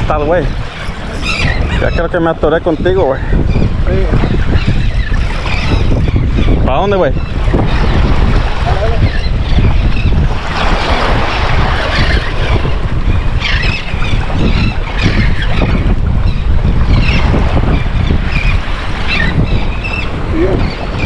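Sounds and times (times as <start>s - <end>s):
waves and moving water: 0.0s - 21.0s
wind buffeting microphone: 0.0s - 21.0s.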